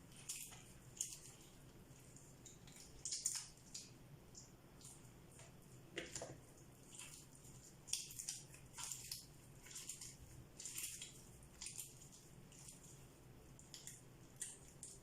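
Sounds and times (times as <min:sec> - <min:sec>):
wet dough squelching: 0:00.0 - 0:15.0.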